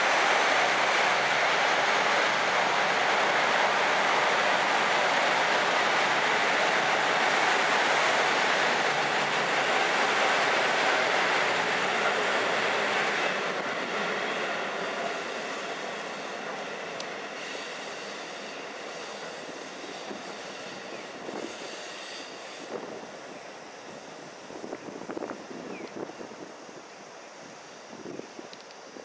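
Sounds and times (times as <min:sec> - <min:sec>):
diesel railcars moving past: 0:00.0 - 0:28.2.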